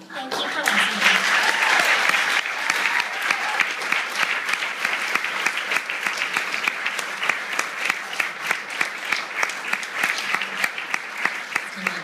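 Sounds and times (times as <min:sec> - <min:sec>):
audience applauding: 0:00.1 - 0:12.0.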